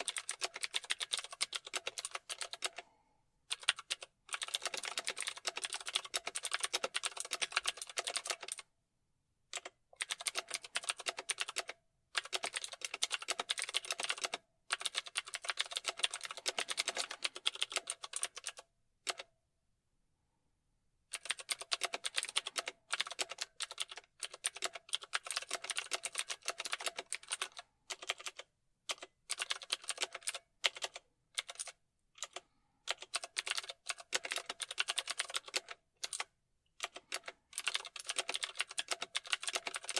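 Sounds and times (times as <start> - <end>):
typing on computer keyboard: 0.0 - 2.9, 3.5 - 8.7, 9.5 - 19.3, 21.1 - 39.9.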